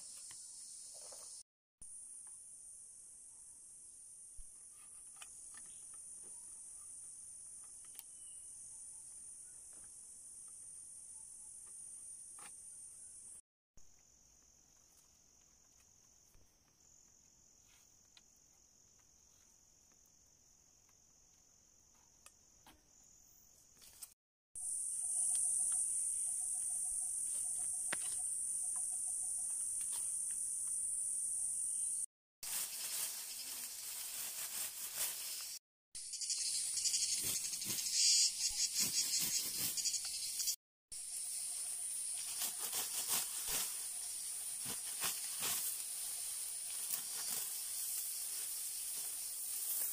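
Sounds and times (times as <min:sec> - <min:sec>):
crickets chirping: 0:05.2 - 0:13.4, 0:14.0 - 0:23.7, 0:24.6 - 0:49.9.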